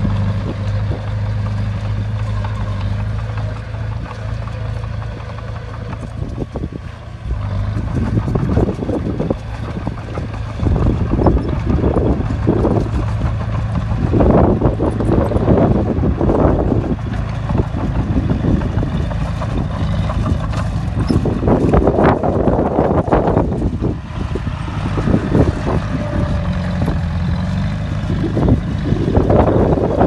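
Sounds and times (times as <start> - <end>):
bulldozer diesel engine humming: 0.0 - 30.0.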